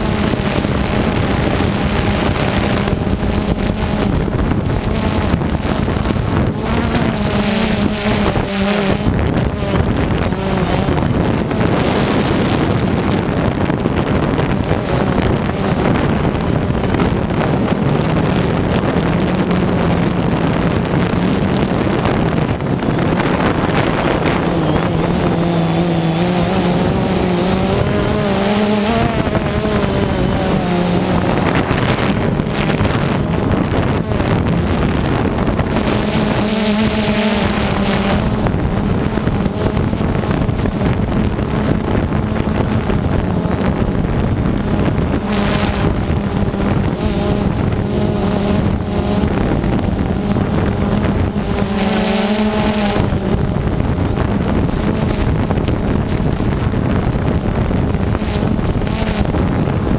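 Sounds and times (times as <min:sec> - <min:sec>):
drone propellers buzzing: 0:00.0 - 0:59.9
wind noise on microphone: 0:00.0 - 0:59.9.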